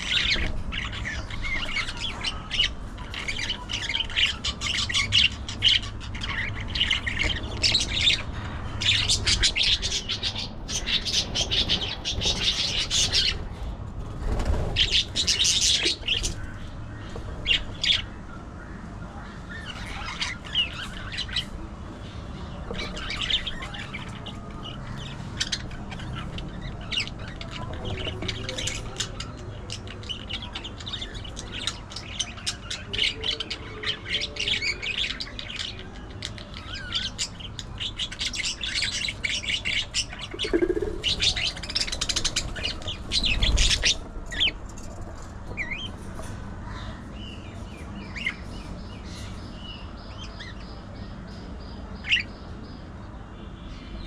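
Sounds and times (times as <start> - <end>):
budgerigars chattering and chirping: 0.0 - 18.5, 19.1 - 53.0.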